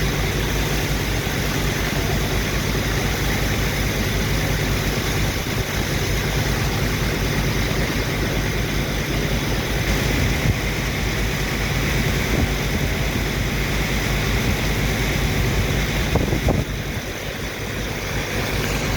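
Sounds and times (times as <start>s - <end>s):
heavy engine running: 0.0s - 18.9s.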